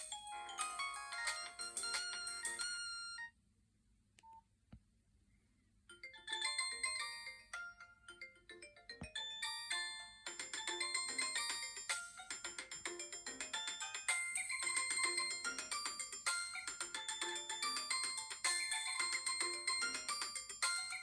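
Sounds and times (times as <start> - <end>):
polyphonic ringtone melody: 0.0 - 3.3, 5.9 - 21.0.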